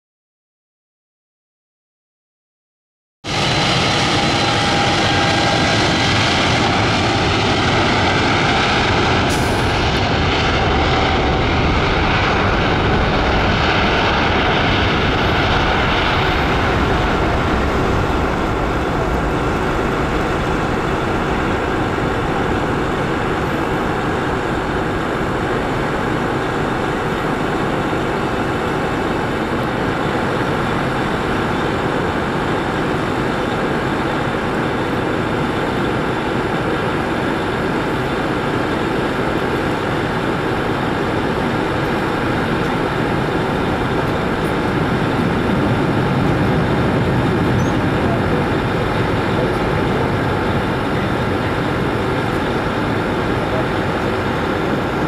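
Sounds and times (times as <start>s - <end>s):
jet engines at takeoff thrust: 3.3s - 55.0s.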